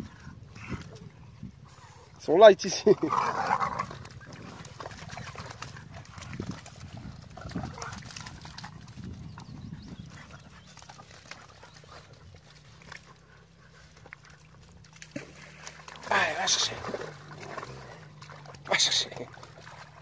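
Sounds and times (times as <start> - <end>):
paws pattering on wet ground: 0.0 - 20.0.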